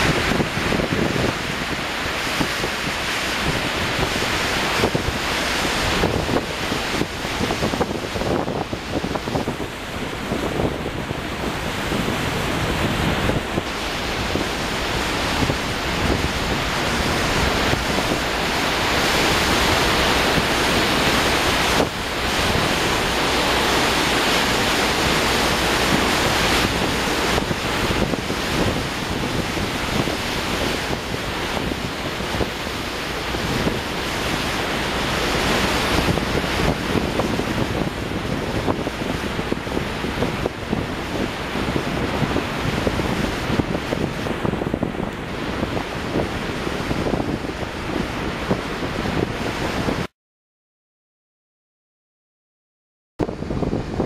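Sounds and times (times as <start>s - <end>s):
water rushing alongside ferry: 0.0s - 50.1s, 53.2s - 54.0s
wind on microphone: 0.0s - 50.1s, 53.2s - 54.0s.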